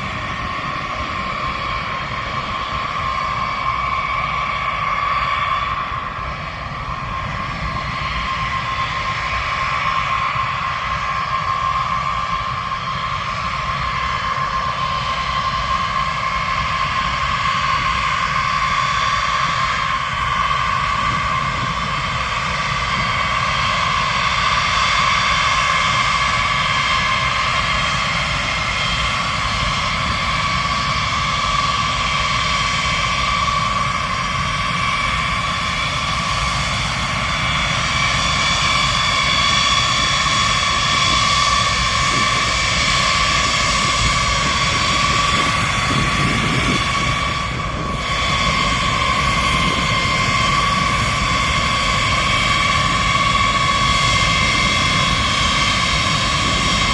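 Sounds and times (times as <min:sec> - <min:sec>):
high steady whine: 0:00.0 - 0:56.9
jet engines roaring: 0:00.0 - 0:56.9.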